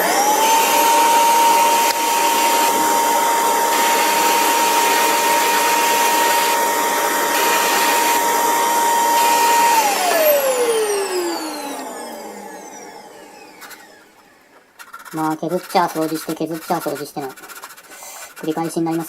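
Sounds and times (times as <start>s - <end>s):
handheld vacuum cleaner whining: 0.0s - 19.0s.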